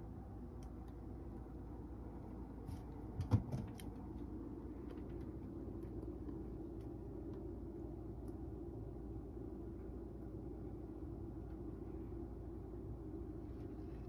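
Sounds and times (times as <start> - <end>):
room heater humming: 0.0 - 14.0.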